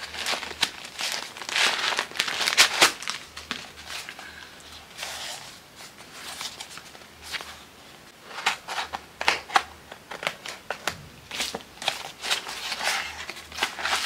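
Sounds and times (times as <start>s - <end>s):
packaging crinkling and rustling: 0.0s - 7.6s, 8.2s - 14.0s.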